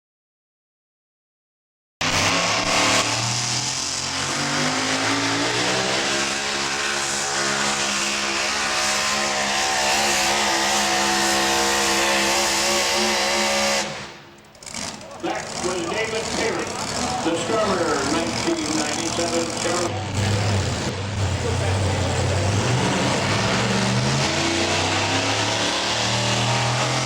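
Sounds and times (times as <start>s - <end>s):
pulling truck engine revving: 2.0s - 27.0s.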